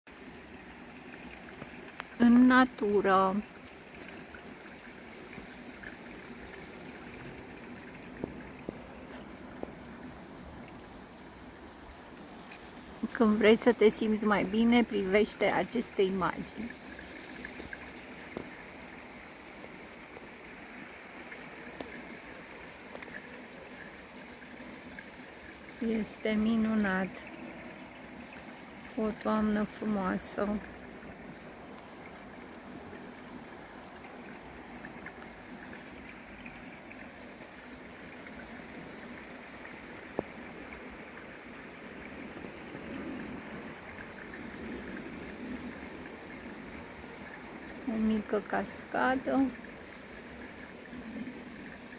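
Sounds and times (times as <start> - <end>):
waterfall rushing into pond: 0.1 - 51.9.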